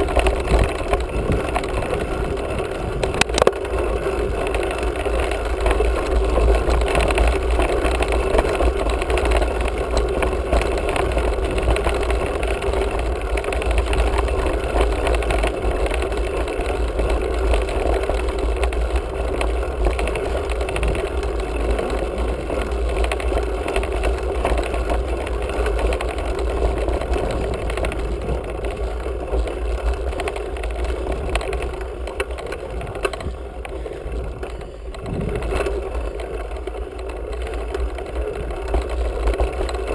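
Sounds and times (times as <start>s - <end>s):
bike tyre noise on dirt: 0.0s - 39.9s
constant low hum: 0.0s - 39.9s
wind rumble: 0.0s - 39.9s.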